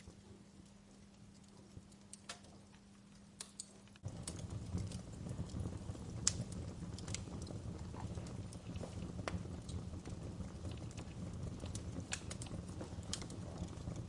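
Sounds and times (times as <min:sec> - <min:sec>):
low rumbling flame noise: 0:00.0 - 0:14.0
wood fire crackling: 0:00.0 - 0:14.0
sharp pops and snaps: 0:01.0 - 0:14.0.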